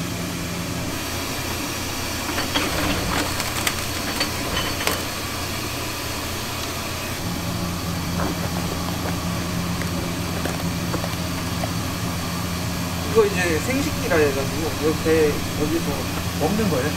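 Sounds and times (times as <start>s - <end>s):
kitchen machine hum: 0.0s - 16.9s.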